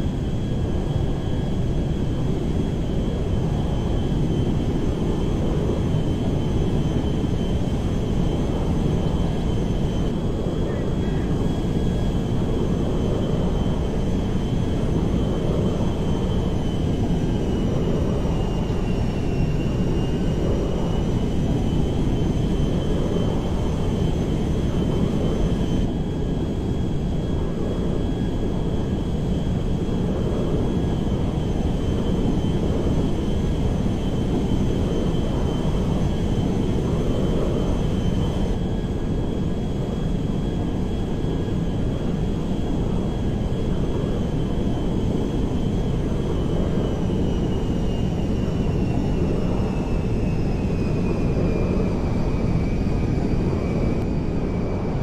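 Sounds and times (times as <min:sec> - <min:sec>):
airplane engines rushing: 0:00.0 - 0:55.0
high engine whine: 0:00.0 - 0:55.0.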